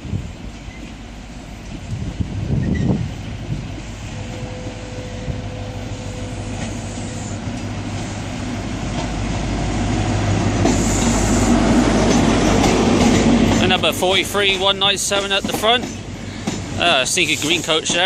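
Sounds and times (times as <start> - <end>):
diesel train engine hum: 0.0 - 18.0
train wheel noise: 0.0 - 18.0.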